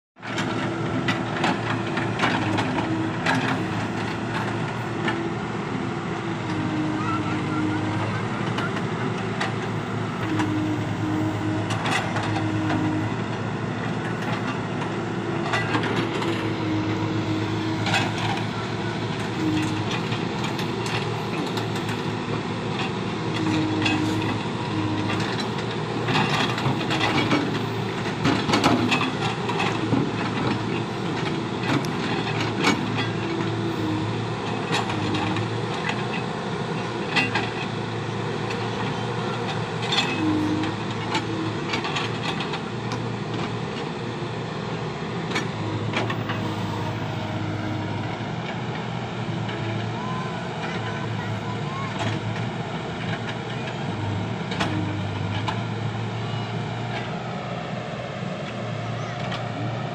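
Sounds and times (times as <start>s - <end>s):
diesel engine running under load: 0.2s - 59.9s.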